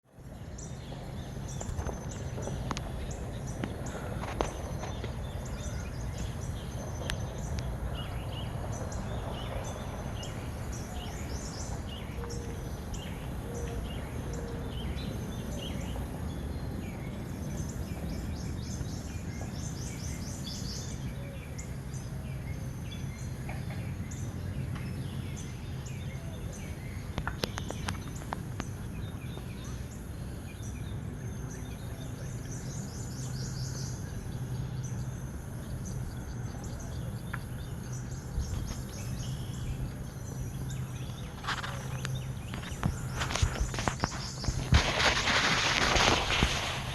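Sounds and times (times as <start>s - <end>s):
steady low hum: 0.0s - 46.9s
birds chirping and calling: 0.2s - 46.4s.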